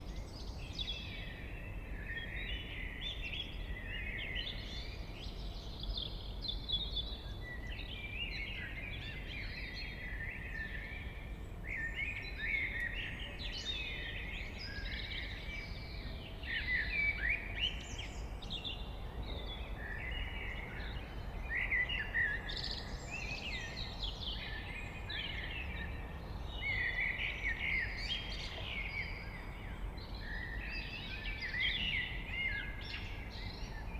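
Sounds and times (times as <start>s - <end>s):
blackbird singing: 0.0s - 33.9s.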